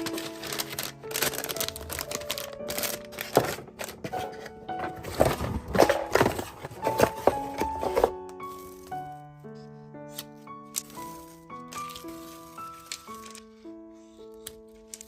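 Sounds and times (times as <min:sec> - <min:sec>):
packaging rustling and crinkling: 0:00.0 - 0:09.2, 0:10.7 - 0:13.5
soft background music: 0:00.0 - 0:15.0.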